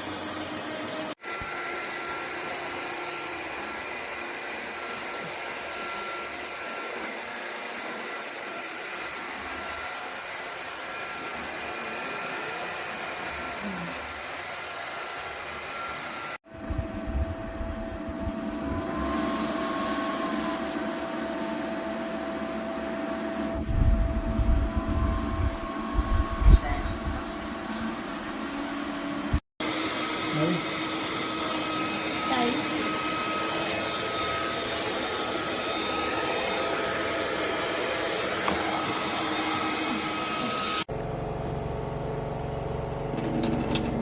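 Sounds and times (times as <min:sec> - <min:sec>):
floor vacuum mop whining: 0:00.0 - 0:17.1, 0:17.7 - 0:41.6.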